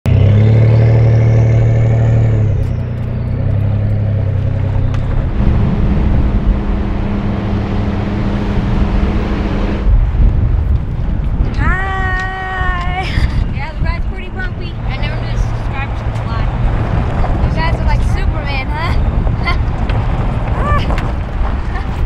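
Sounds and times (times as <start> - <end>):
truck engine hum: 0.1 - 22.0
tyres on dirt road: 0.1 - 22.0.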